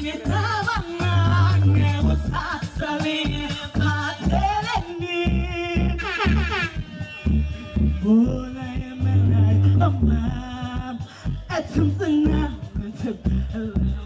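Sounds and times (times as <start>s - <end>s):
dancehall backing track: 0.0s - 14.0s
woman singing into a microphone: 0.0s - 14.0s.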